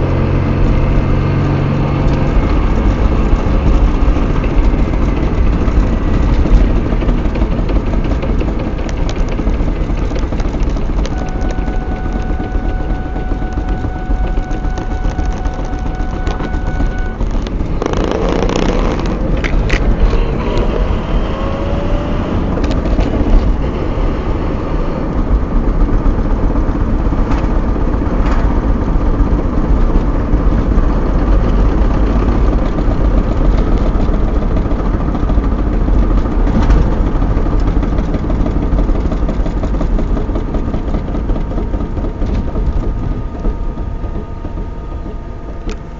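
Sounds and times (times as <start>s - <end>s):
road and drivetrain rumble: 0.0s - 45.9s.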